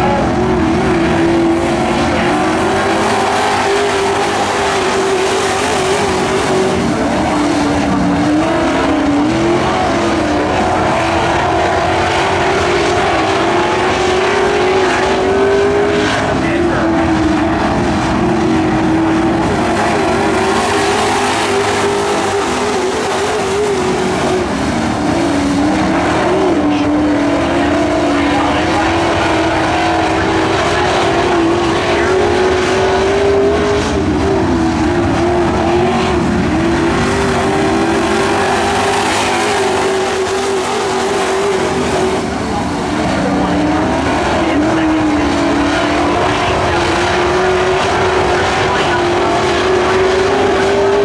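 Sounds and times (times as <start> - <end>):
race truck engines racing: 0.0 - 51.0.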